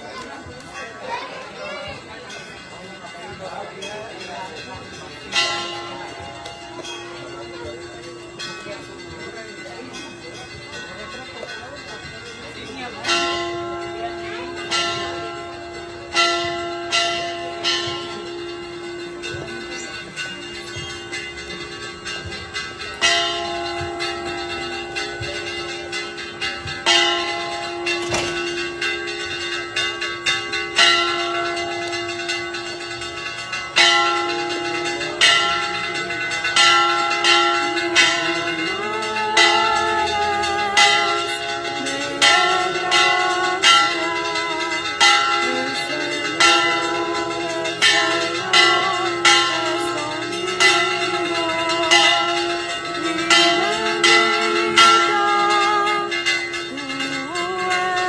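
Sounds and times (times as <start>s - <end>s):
church bells pealing: 0.0s - 58.0s.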